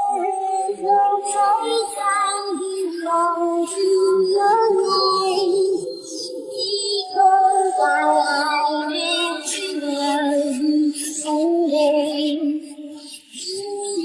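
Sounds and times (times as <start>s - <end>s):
song with high-pitched singing: 0.0s - 14.0s.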